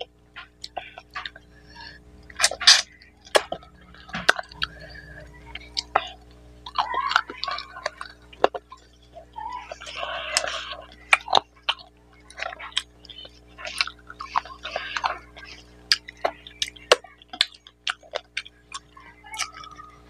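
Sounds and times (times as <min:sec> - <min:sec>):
chewing and lip smacks: 0:00.0 - 0:20.0
fingers mixing wet food: 0:00.0 - 0:20.0.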